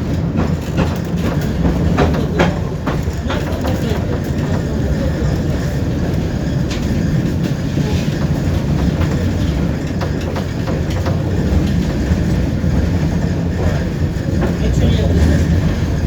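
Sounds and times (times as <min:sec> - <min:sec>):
tram rumble of wheels and motors: 0:00.0 - 0:16.0
wheels clicking over rails: 0:00.0 - 0:16.0.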